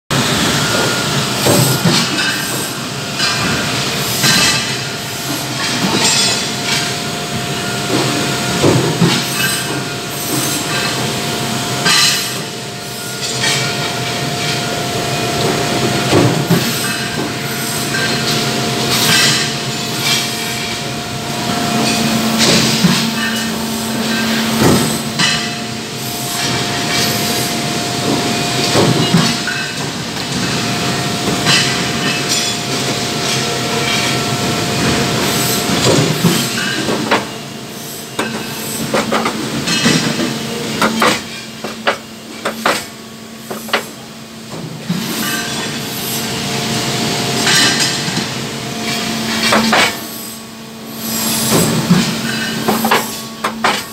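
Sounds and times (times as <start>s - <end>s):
machinery noise with held tone: 0.1s - 53.9s.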